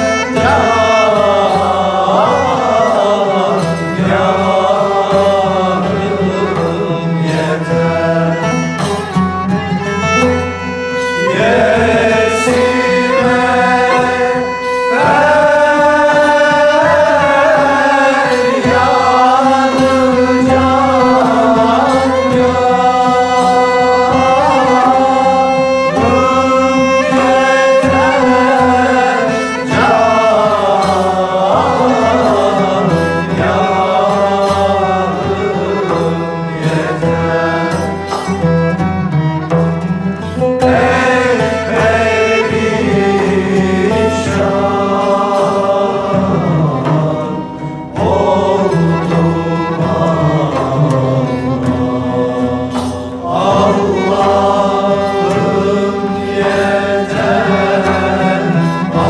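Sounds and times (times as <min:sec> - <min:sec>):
choir singing: 0:00.0 - 0:38.6, 0:40.2 - 0:59.0
instrumental accompaniment: 0:00.0 - 0:59.0.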